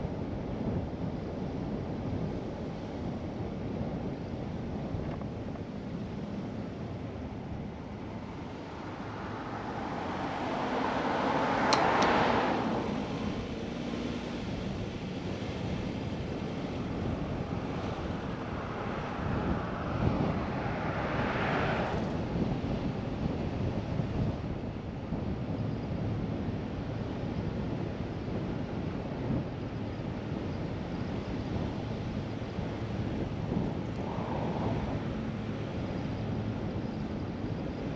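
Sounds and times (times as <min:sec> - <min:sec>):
car tyre and wind noise: 0:00.0 - 0:37.9.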